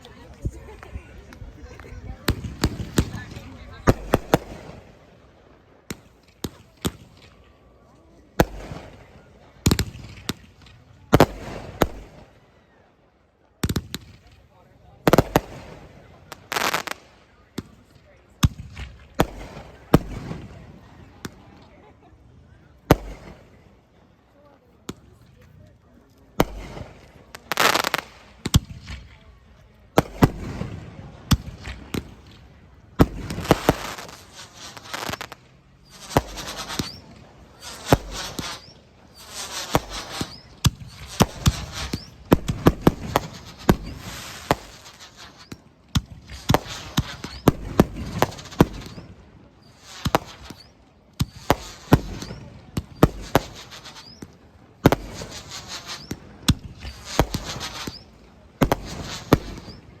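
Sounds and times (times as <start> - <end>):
firework bangs with crackling: 0.1 - 7.5, 8.3 - 12.4, 13.6 - 22.0, 22.6 - 24.0, 26.3 - 60.0.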